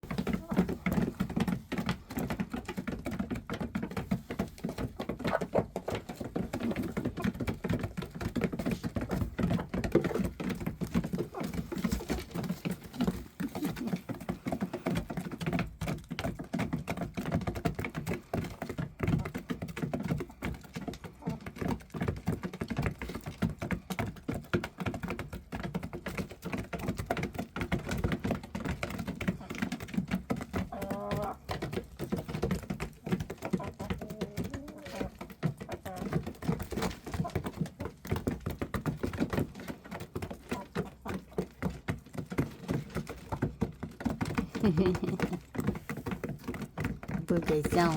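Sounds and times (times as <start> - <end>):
small animals crunching and chewing: 0.0 - 47.9.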